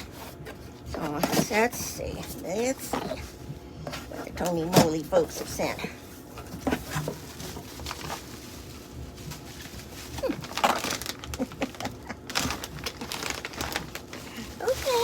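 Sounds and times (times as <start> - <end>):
cardboard box being unpacked: 0.0 - 15.0.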